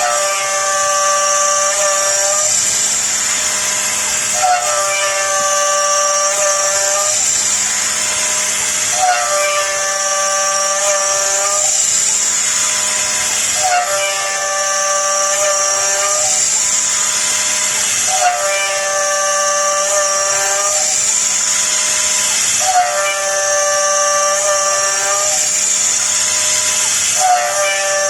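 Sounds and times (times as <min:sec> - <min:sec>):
router spindle cutting metal: 0:00.0 - 0:28.0.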